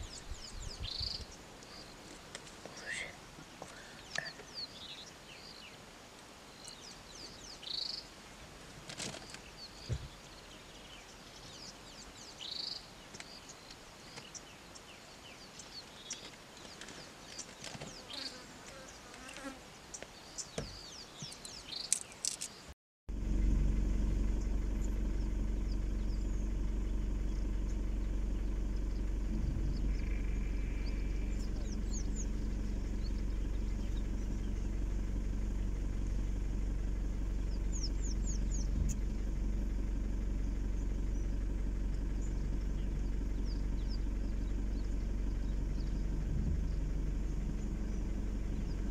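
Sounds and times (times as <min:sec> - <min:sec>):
vehicle engine idling: 0:00.0 - 0:18.3, 0:23.1 - 0:48.9.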